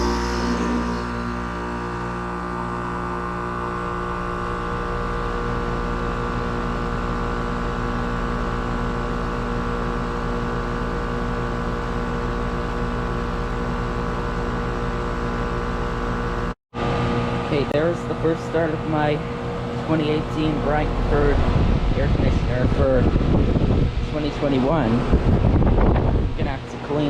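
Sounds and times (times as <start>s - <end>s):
air conditioner compressor humming: 0.0s - 27.0s.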